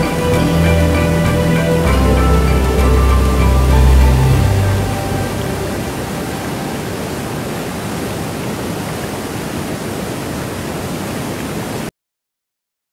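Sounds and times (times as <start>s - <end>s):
waterfall rushing over rock: 0.0s - 11.9s.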